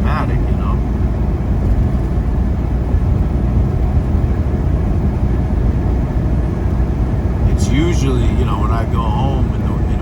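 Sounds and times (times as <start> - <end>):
truck engine and tyre noise: 0.0 - 10.0.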